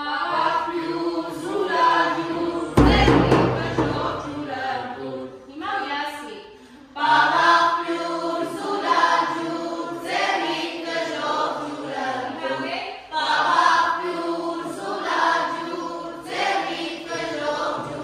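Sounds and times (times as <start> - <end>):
group singing folk song: 0.0 - 5.7, 6.6 - 18.0.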